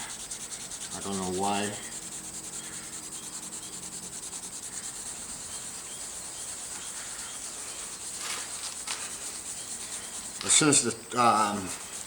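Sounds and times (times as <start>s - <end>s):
sandpaper scrubbing: 0.0s - 12.0s.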